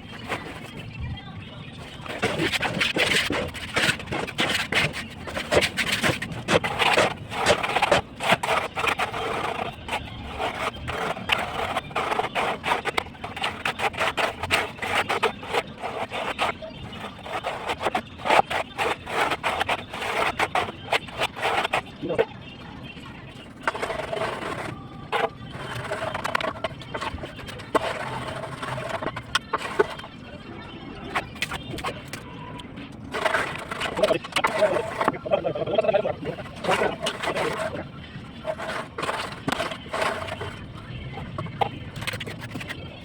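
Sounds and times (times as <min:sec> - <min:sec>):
hand tools scraping and knocking: 0:00.0 - 0:00.9, 0:01.8 - 0:22.2, 0:23.6 - 0:30.1, 0:31.0 - 0:32.2, 0:33.1 - 0:40.6, 0:41.2 - 0:42.9.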